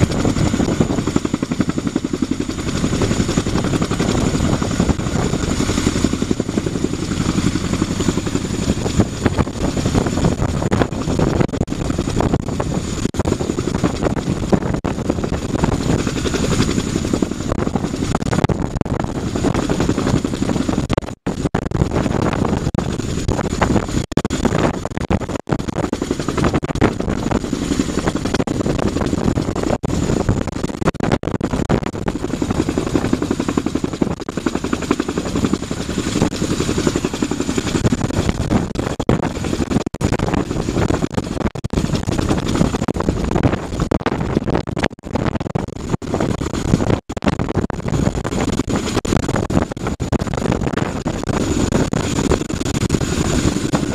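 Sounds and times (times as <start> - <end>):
helicopter rotors chopping: 0.0 - 53.9
high turbine engine whine: 0.0 - 53.9.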